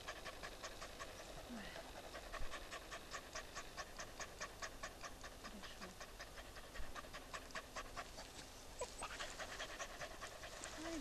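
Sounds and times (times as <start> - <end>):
dog panting quickly: 0.0 - 11.0.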